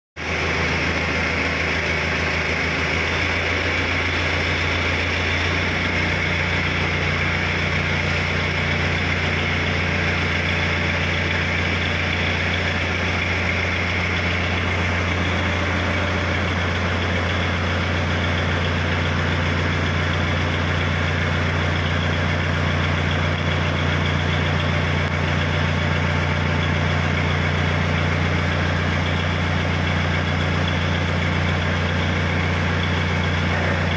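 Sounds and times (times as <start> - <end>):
diesel crane engine running: 0.2 - 33.9.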